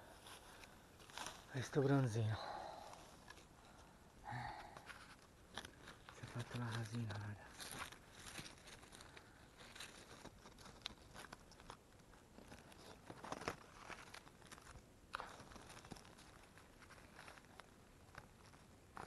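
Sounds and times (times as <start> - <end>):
dry leaves crackling and rustling: 0.3 - 3.4, 5.4 - 19.0.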